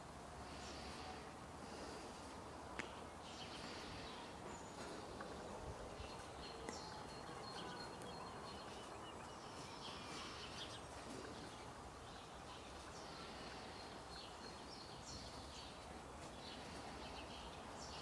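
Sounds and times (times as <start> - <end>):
low background noise: 0.0 - 18.0
small birds chirping: 0.4 - 18.0.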